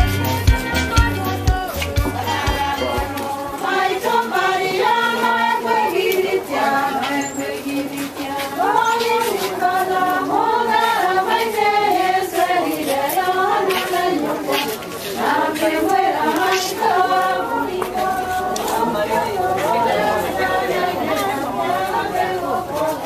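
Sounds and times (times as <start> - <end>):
group singing slow held notes: 0.1 - 23.0.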